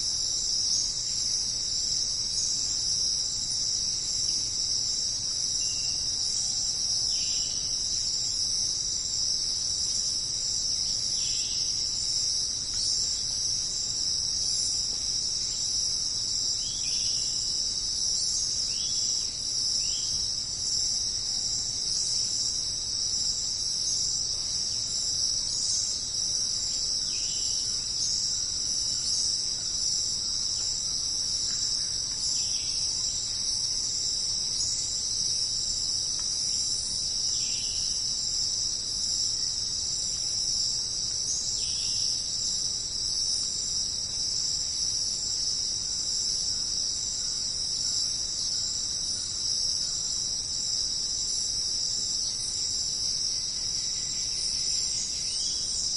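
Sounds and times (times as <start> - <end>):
insects chorus: 0.0 - 55.9.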